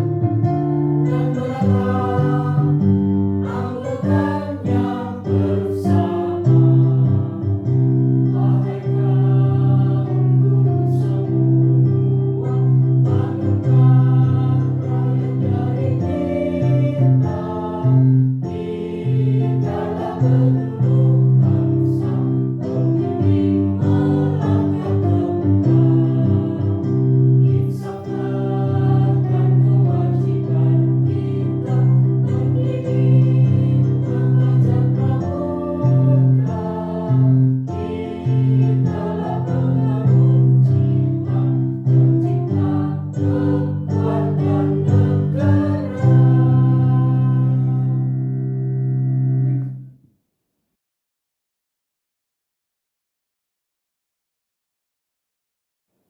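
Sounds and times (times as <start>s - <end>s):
instrumental accompaniment: 0.0s - 49.9s
choir singing: 1.0s - 48.4s.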